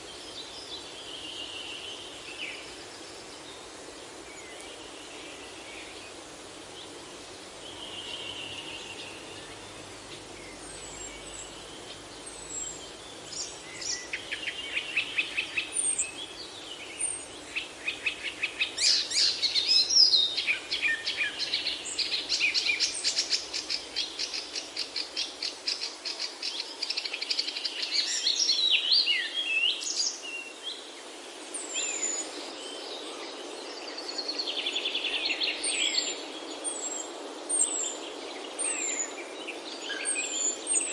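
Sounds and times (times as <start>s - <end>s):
songbirds singing and chirping: 0.0s - 40.9s
steady background hiss: 0.0s - 40.9s.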